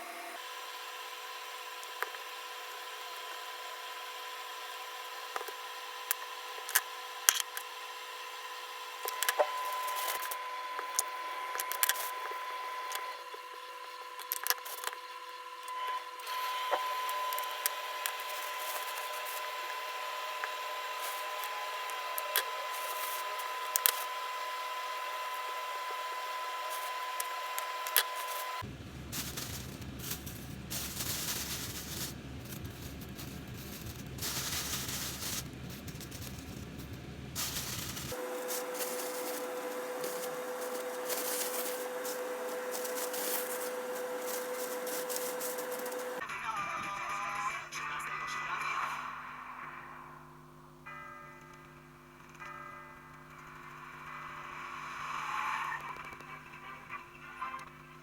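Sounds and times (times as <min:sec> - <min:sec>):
machine hum with thin whine: 0:00.0 - 0:48.4.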